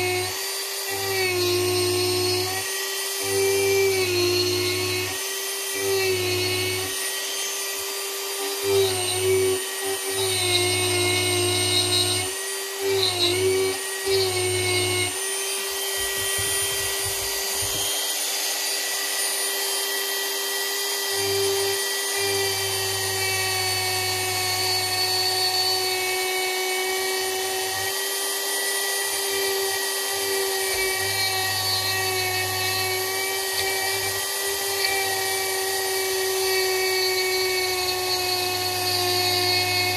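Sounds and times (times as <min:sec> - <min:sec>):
rotary tool carving wood: 0:00.0 - 0:39.9.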